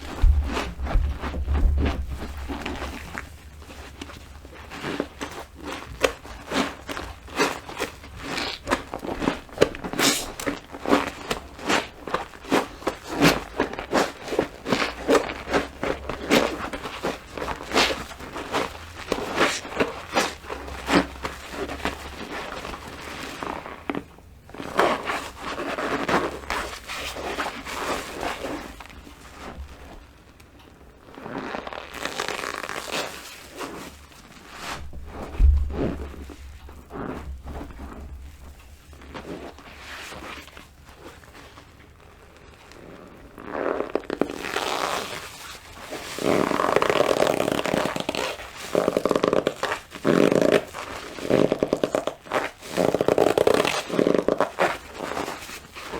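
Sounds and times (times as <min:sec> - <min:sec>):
wet sponge squelching: 0:00.0 - 0:30.4, 0:31.0 - 0:55.9.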